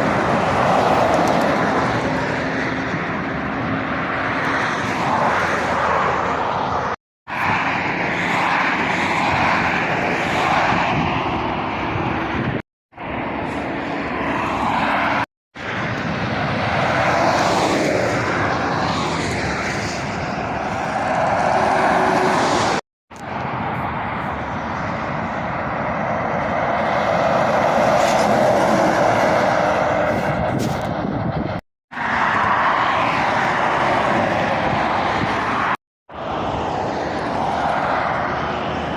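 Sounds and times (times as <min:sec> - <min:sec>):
road traffic passing: 0:00.0 - 0:38.9.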